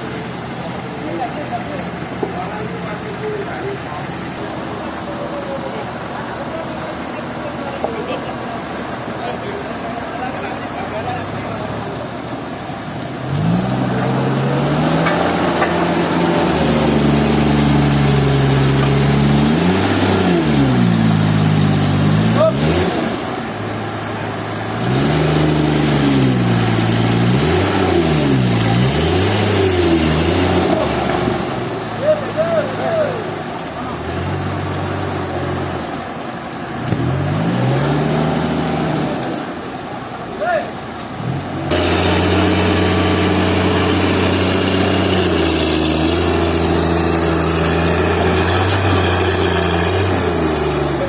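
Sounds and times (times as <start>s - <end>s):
engine revving: 0.0s - 36.1s, 36.7s - 39.7s, 41.0s - 51.0s.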